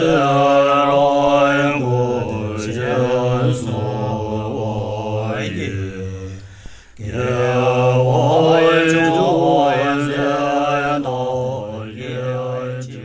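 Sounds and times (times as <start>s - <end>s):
monks chanting: 0.0s - 13.0s.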